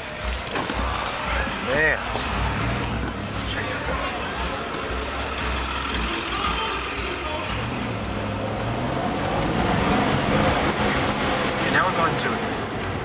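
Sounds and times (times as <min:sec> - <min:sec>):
road noise: 0:00.0 - 0:13.0
car engine from inside cabin: 0:00.8 - 0:13.0.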